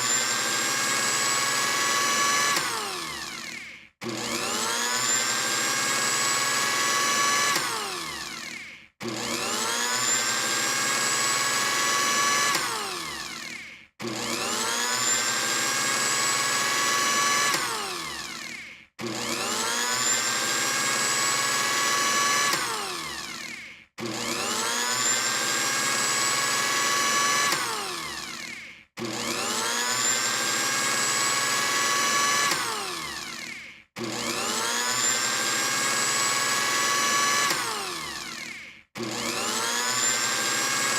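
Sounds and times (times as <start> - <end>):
blender motor whining: 0.0 - 40.9.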